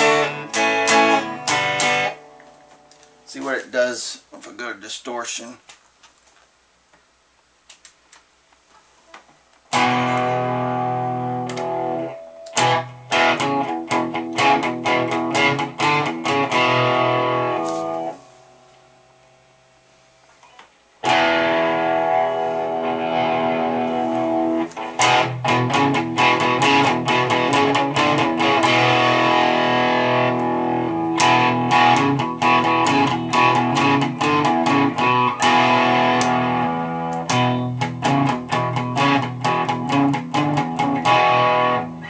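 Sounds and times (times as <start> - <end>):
distorted electric guitar: 0.0 - 3.5, 9.7 - 19.6, 20.4 - 42.0.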